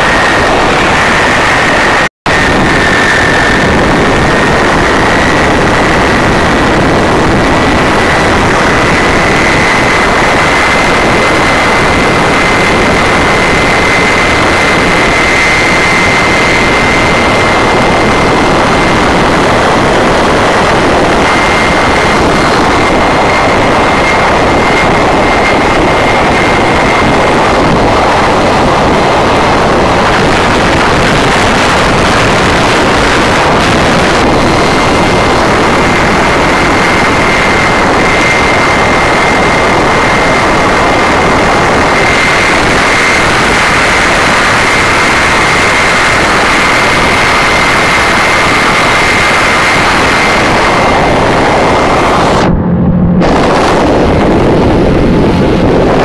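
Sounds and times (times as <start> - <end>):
boat engine running hard: 0.0 - 56.0
high supercharger whine: 0.0 - 56.0.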